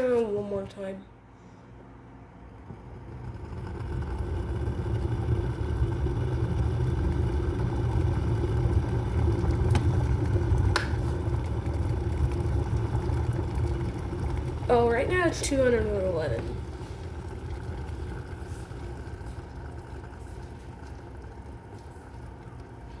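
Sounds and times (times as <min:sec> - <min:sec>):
kettle rumbling: 0:00.0 - 0:23.0.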